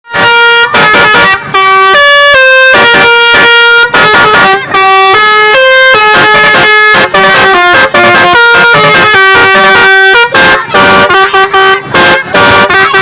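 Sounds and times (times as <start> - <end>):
musical vehicle horn playing tune: 0.1 - 13.0.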